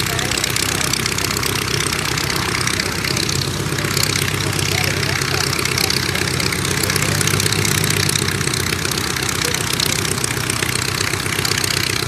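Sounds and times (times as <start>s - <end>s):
aircraft engine running: 0.0s - 12.0s.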